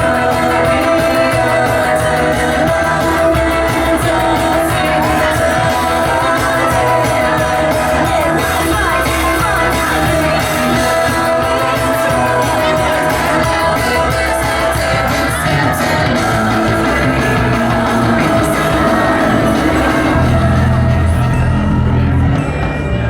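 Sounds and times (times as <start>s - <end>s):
live rock band playing: 0.0s - 23.0s
person singing: 0.0s - 23.0s.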